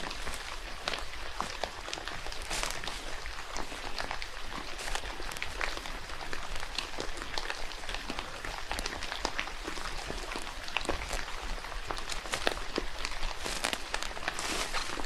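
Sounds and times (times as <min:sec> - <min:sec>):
raindrops pattering: 0:00.0 - 0:15.0
steady hiss of rainfall: 0:00.0 - 0:15.0.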